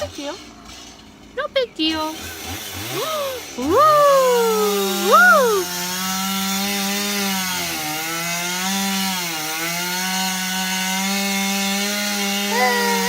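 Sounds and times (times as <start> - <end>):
chainsaw engine buzzing: 0.0 - 13.0.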